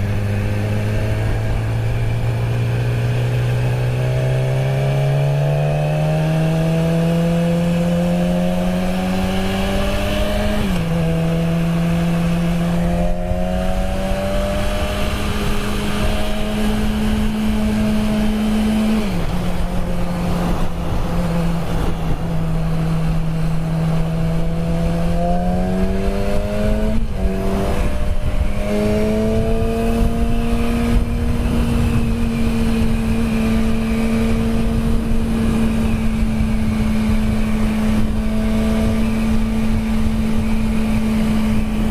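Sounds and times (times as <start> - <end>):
motorcycle engine running: 0.0 - 41.9
wind rumble: 0.0 - 41.9.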